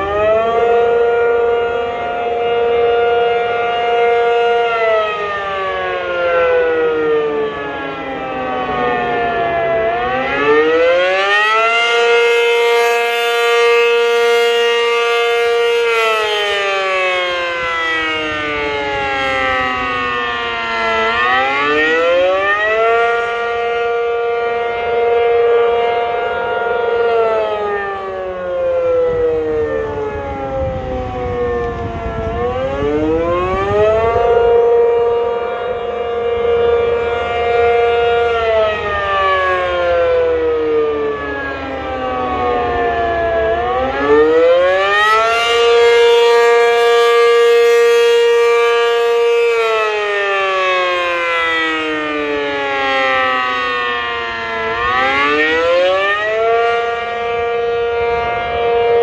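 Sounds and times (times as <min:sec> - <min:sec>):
rotating siren rising and falling: 0:00.0 - 0:59.0.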